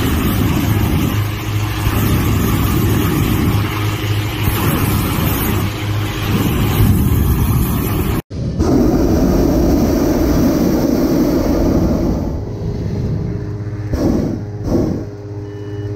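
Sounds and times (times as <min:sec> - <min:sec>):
inflator fan engine humming: 0:00.0 - 0:15.9.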